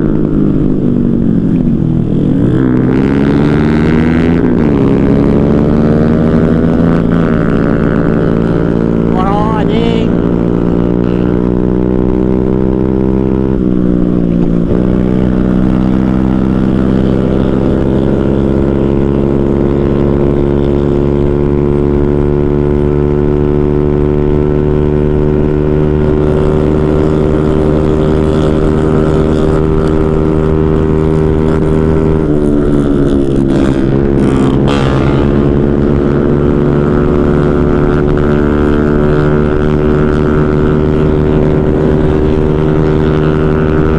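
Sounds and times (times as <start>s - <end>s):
motorcycle engine at high revs: 0.0s - 43.9s.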